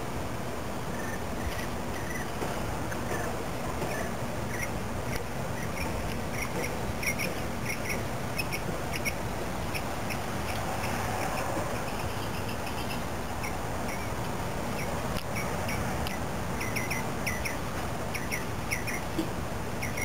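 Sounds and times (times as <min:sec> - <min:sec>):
bird chirping: 0:00.9 - 0:19.2, 0:19.8 - 0:20.0.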